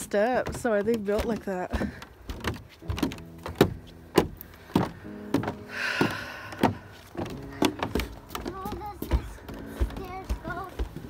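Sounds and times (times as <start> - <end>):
footsteps on wooden stairs: 0.0 - 11.0.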